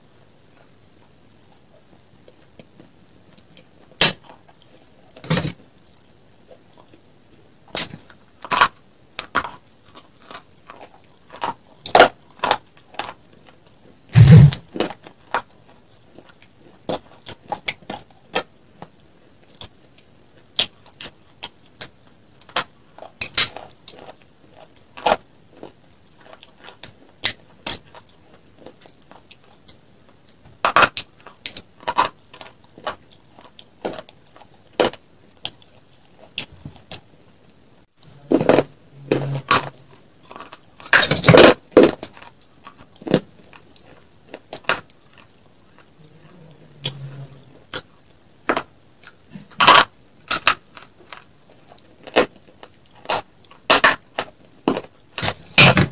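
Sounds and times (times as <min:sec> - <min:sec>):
crunchy food being chewed: 0:00.0 - 0:55.9.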